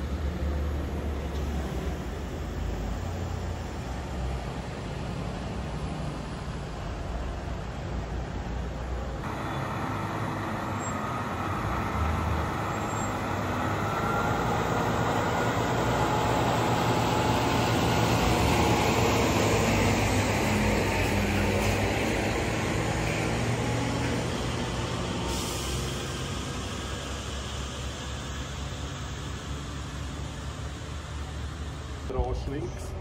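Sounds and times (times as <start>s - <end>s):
diesel truck engine running: 0.0s - 33.0s
tyre and road noise: 0.0s - 33.0s.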